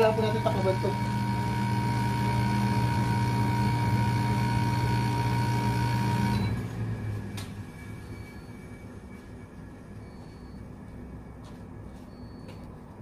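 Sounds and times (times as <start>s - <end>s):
condenser fan running: 0.0s - 12.0s
air conditioner compressor humming: 0.0s - 13.0s.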